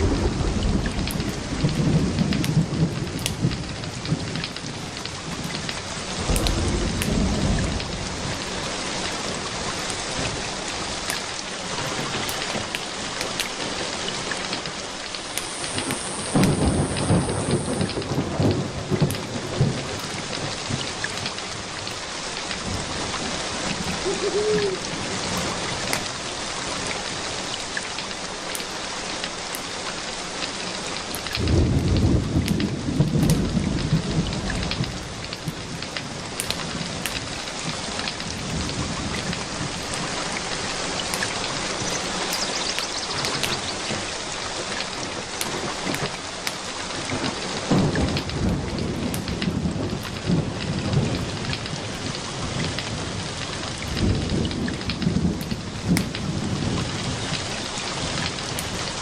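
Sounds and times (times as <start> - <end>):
thunder rumbling: 0.0 - 12.8, 13.4 - 27.2, 31.2 - 59.0
steady rain: 0.0 - 59.0.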